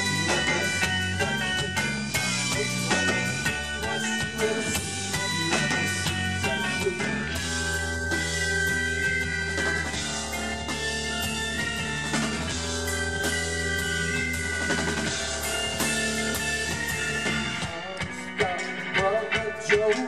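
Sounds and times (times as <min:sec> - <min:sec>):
bass guitar: 0:00.0 - 0:20.0
drum kit beat: 0:00.0 - 0:20.0
electric guitar chords: 0:00.0 - 0:20.0.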